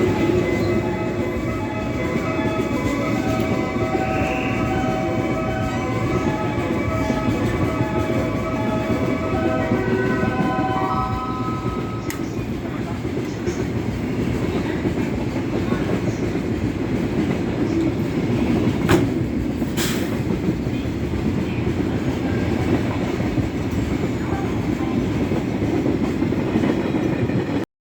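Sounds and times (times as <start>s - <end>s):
train wheels rumbling: 0.0s - 27.6s.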